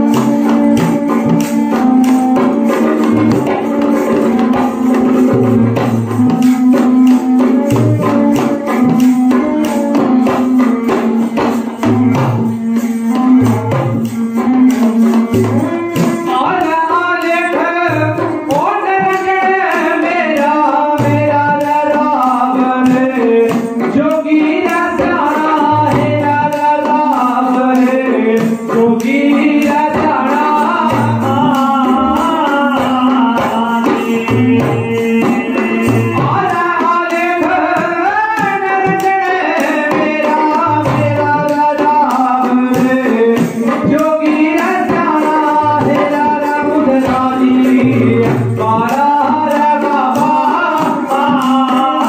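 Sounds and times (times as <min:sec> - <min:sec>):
bowed sarangi melody: 0:00.0 - 0:52.0
hand drum beat: 0:00.0 - 0:52.0
man singing: 0:00.0 - 0:52.0.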